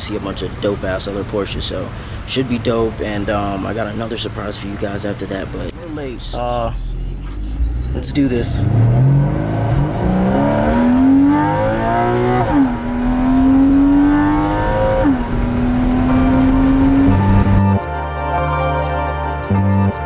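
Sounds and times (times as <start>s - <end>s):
car engine accelerating hard: 0.0s - 17.6s.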